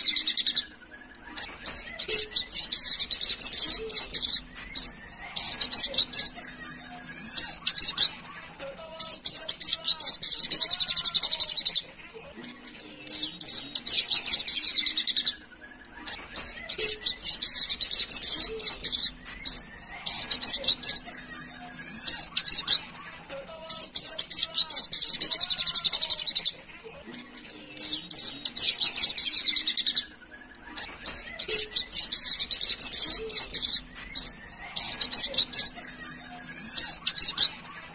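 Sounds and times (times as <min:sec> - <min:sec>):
bird twittering trills: 0:00.0 - 0:08.3, 0:12.5 - 0:23.0, 0:23.7 - 0:26.6, 0:27.5 - 0:37.9.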